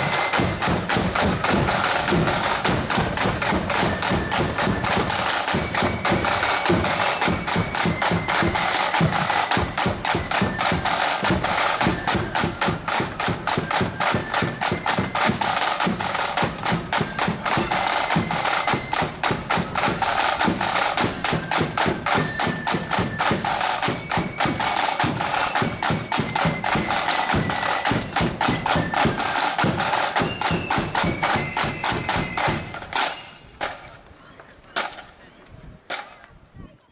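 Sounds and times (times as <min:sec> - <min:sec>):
snare drumming: 0:00.0 - 0:34.1, 0:34.7 - 0:35.2, 0:35.9 - 0:36.3
marching band playing: 0:00.0 - 0:36.2.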